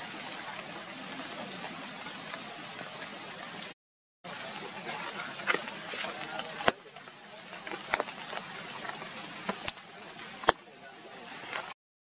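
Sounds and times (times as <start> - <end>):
steady rain hiss: 0.0 - 3.7, 4.3 - 11.7.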